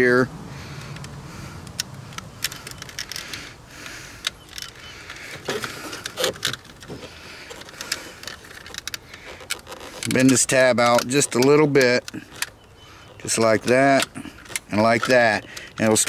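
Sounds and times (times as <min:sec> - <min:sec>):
plastic clicks and snaps: 0:00.8 - 0:16.0.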